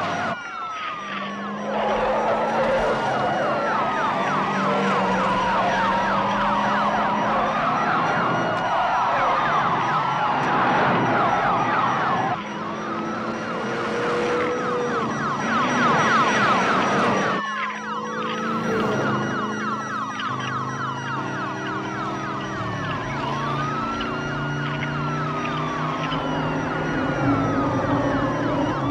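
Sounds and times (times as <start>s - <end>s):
emergency siren wailing: 0.0s - 28.9s
rapid sweeping siren tone: 0.0s - 28.9s.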